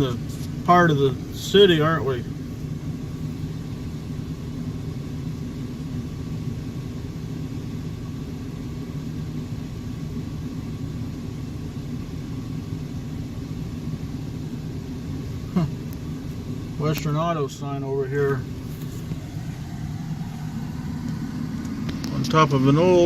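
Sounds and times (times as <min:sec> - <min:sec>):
car engine and road rumble: 0:00.0 - 0:23.0
constant low hum: 0:00.0 - 0:23.0.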